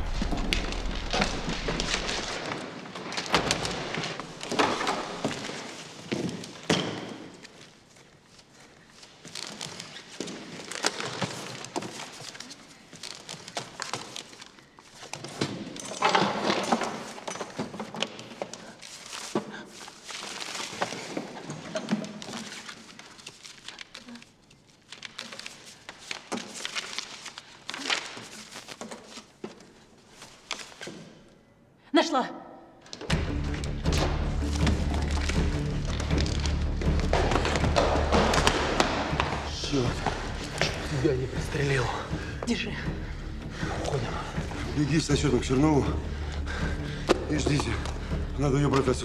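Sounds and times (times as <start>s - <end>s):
papers rustling: 0.0s - 31.4s, 32.9s - 44.8s.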